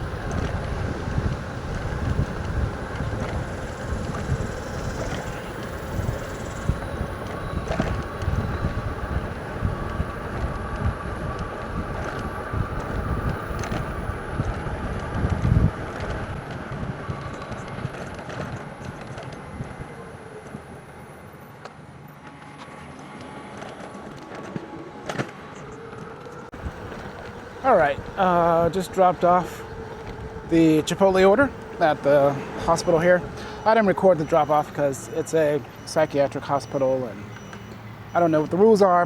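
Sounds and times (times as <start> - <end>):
wind rumbling on microphone: 0.0 - 20.9, 25.4 - 39.0
bike tyre noise on path: 0.0 - 39.0.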